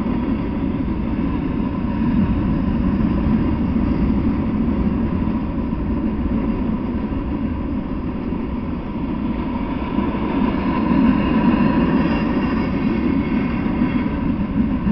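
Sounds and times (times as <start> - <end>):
freight train wheels rumbling: 0.0 - 14.9.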